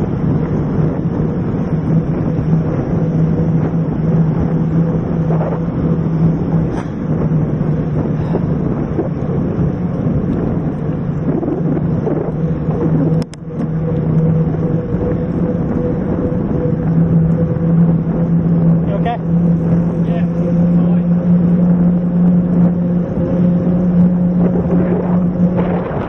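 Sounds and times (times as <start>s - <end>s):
bike trail rumble: 0.0s - 26.0s
steady low hum: 0.0s - 26.0s
wind buffeting: 0.0s - 26.0s.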